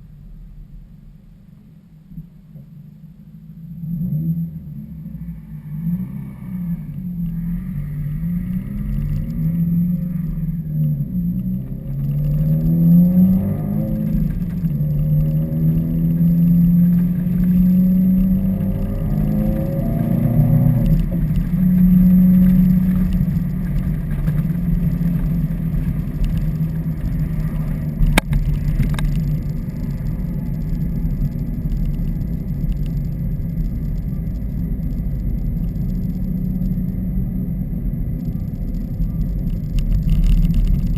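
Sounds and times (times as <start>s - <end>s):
car engine revving: 3.6s - 40.9s.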